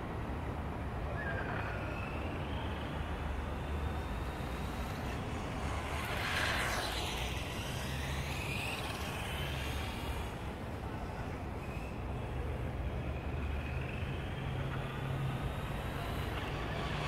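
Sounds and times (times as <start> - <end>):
low rumble of traffic: 0.0 - 17.0
vehicle passing by: 0.6 - 17.0.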